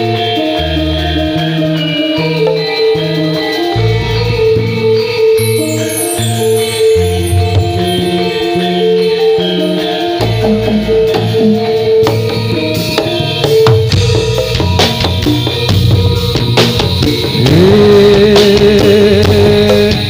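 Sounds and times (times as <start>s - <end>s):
ringing gamelan notes: 0.0s - 20.0s
steady drum beat: 0.8s - 20.0s.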